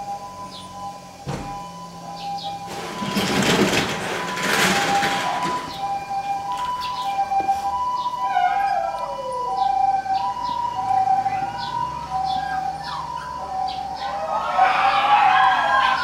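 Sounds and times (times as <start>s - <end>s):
two-tone hi-lo siren: 0.0s - 16.0s.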